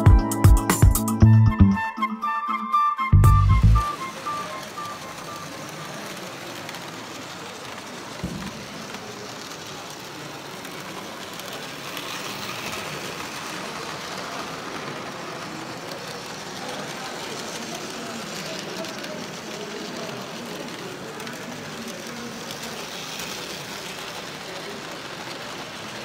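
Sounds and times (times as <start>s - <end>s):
murmur of crowded hall: 3.0s - 26.0s.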